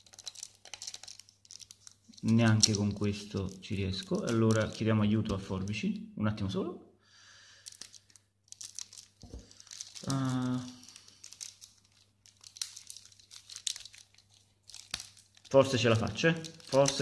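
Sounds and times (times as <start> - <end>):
plastic shrink-wrap crinkling: 0.0 - 5.1, 7.5 - 17.0.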